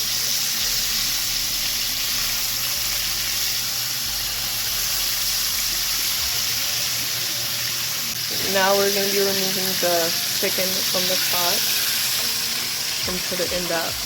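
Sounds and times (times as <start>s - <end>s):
chicken frying in oil: 0.0s - 14.0s.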